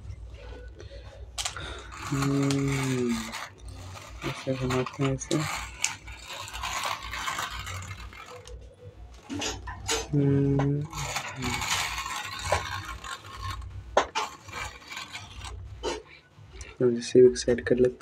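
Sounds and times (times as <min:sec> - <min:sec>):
toy wheels rolling and rattling: 0:01.3 - 0:16.7.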